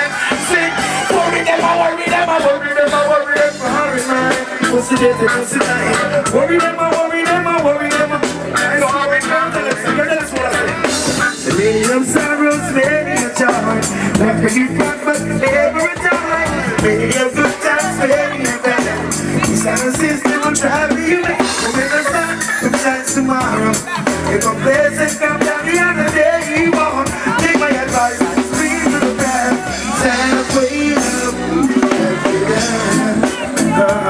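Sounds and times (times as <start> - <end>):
live reggae band music: 0.0 - 34.0
man singing: 0.0 - 34.0
steady drum beat: 0.0 - 34.0.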